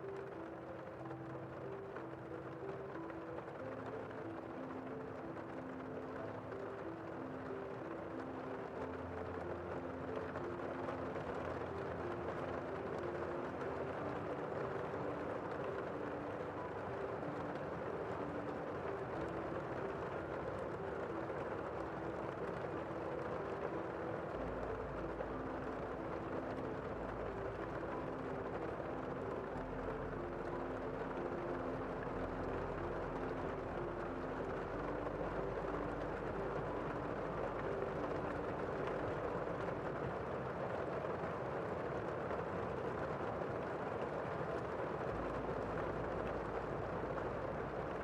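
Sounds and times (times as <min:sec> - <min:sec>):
soft slow music: 0:00.0 - 0:48.0
steady rain: 0:00.0 - 0:48.0.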